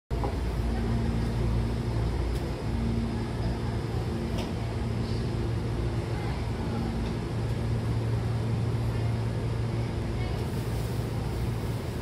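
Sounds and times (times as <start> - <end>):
train car humming: 0.1 - 12.0.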